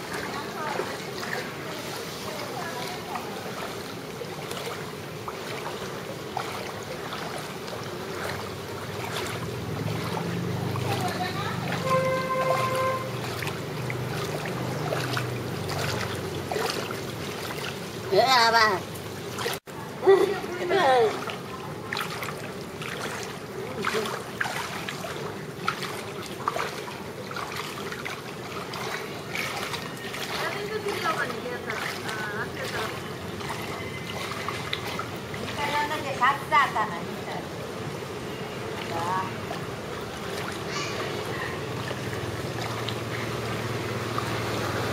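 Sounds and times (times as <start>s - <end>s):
low outdoor rumble: 0.0s - 36.6s
faint water splashes: 0.0s - 44.9s.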